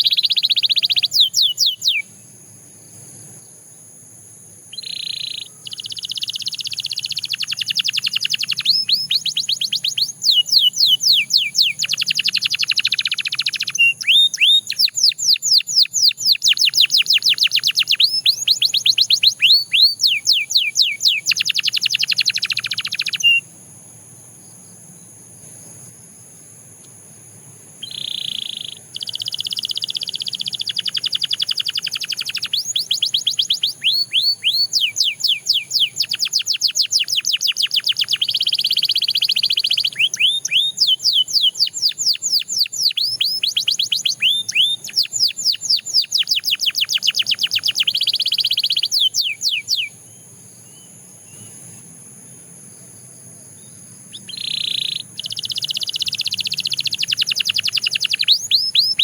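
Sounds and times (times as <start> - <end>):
canary singing: 0.0 - 2.2, 4.7 - 23.5, 27.8 - 50.0, 54.1 - 59.0.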